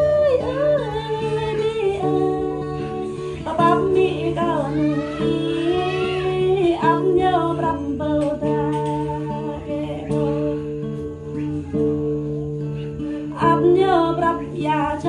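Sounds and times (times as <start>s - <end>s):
plucked guitar: 0.0s - 15.0s
woman singing: 0.0s - 15.0s.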